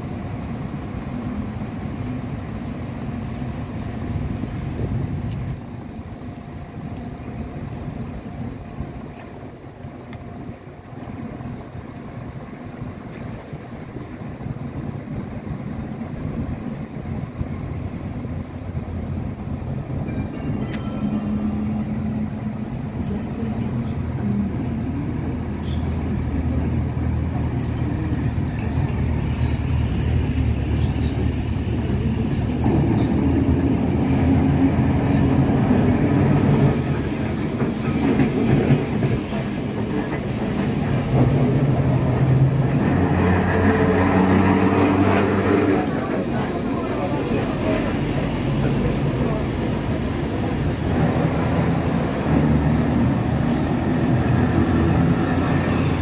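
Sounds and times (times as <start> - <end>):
electric tram motor hum: 0.0 - 56.0
rumble of vehicle traffic: 0.0 - 56.0
steel wheels on rails: 0.0 - 56.0.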